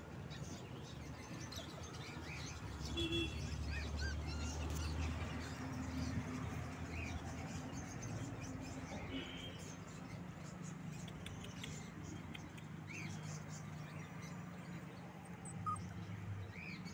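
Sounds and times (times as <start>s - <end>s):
caged birds chirping: 0.0s - 16.9s.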